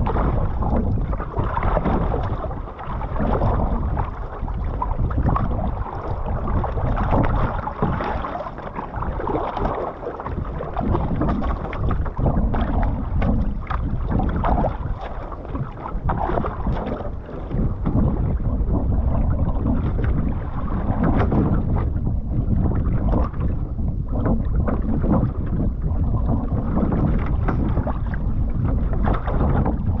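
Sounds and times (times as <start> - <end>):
water lapping against hull: 0.0 - 30.0
wind buffeting microphone: 0.0 - 30.0.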